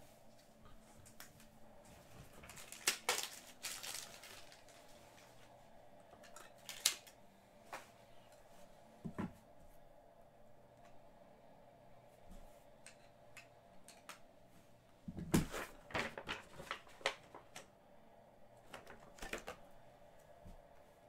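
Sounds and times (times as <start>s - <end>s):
faint room hum: 0.0s - 21.0s.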